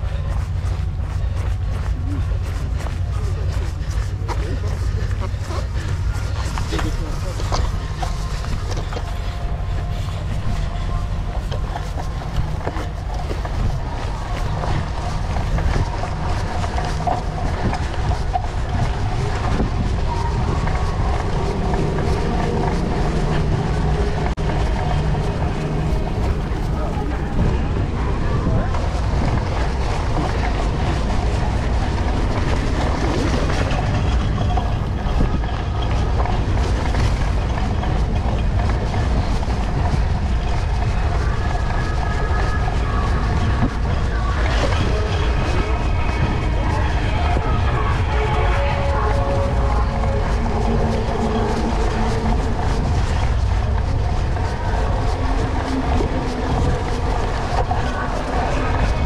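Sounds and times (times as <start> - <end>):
bike rumbling and rattling: 0.0 - 59.0
wind noise on microphone: 0.0 - 59.0.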